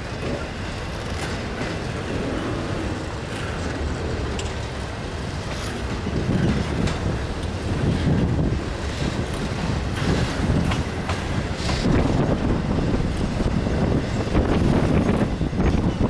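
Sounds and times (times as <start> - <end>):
train wheels rumbling on rail: 0.0 - 16.0
wind on microphone: 2.0 - 16.0.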